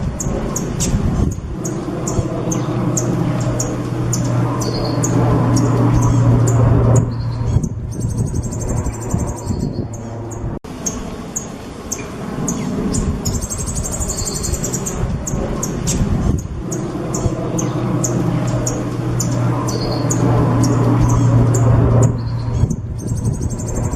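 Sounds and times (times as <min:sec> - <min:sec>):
low hum: 0:00.0 - 0:23.9
songbird chirping and trilling: 0:00.0 - 0:23.9.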